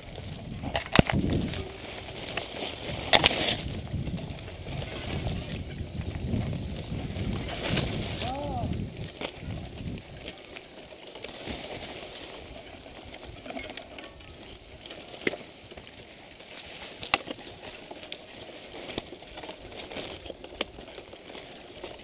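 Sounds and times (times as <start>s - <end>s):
bike rattling: 0.0s - 22.0s
bike tyres on dirt: 0.0s - 22.0s
leaves brushing past bike: 0.0s - 22.0s.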